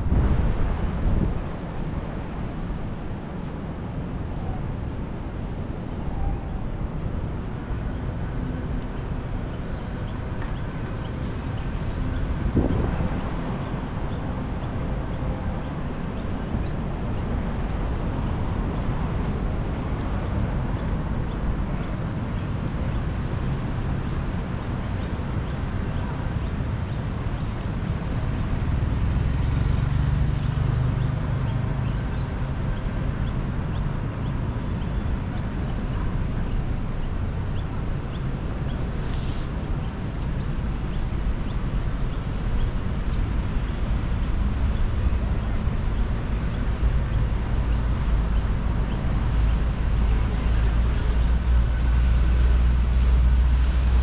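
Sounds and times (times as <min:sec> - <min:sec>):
traffic rumble: 0:00.0 - 0:54.0
wind: 0:00.0 - 0:54.0.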